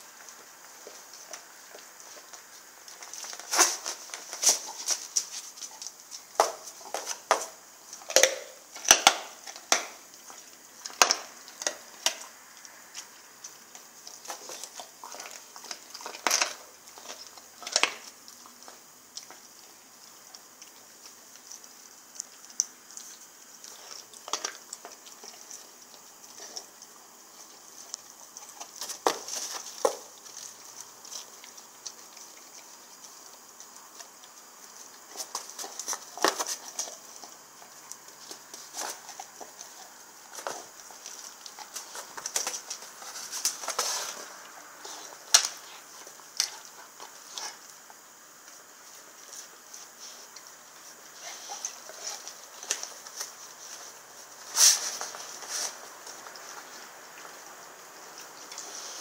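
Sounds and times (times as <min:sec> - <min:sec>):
dog chewing meat and bone: 0:00.0 - 0:59.0.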